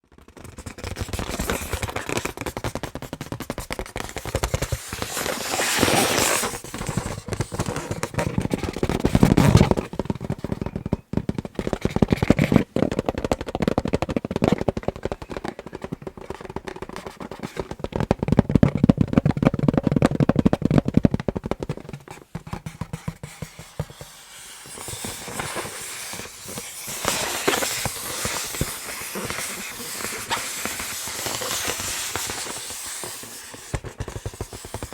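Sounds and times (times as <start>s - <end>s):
tapping and scratching on balloon: 0.0s - 34.9s.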